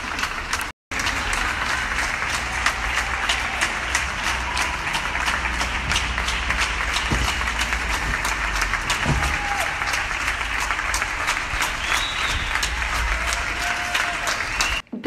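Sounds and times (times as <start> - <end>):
crowd applauding: 0.0 - 14.8.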